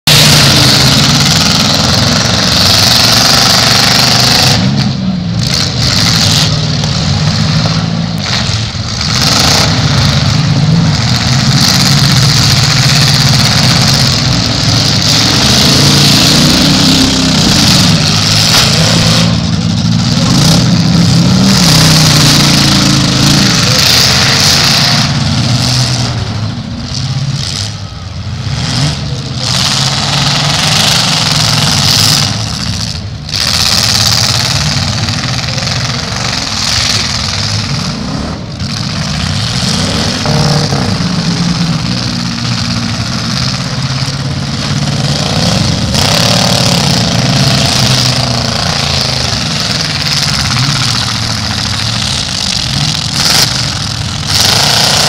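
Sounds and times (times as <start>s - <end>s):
car engines running and revving: 0.0s - 55.0s.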